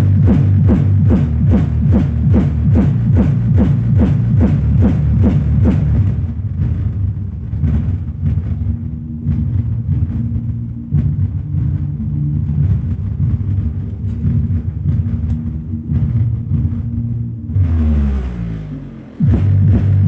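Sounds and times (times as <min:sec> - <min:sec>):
bass-heavy music through subwoofer: 0:00.0 - 0:20.0.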